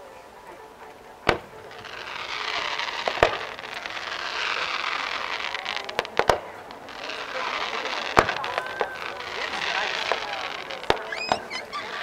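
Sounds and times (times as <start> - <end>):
hiss of burning fireworks: 0.0 - 12.0
firework shells bursting: 0.9 - 12.0.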